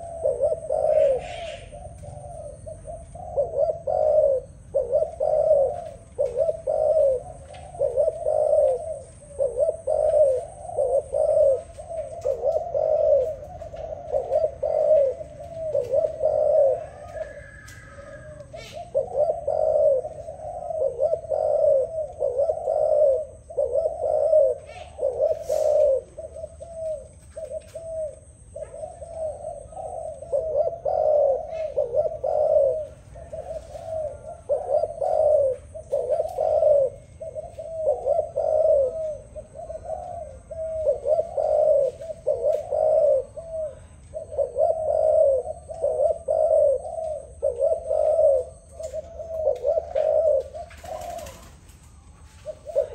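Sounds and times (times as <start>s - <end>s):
dove cooing: 0.0s - 52.9s.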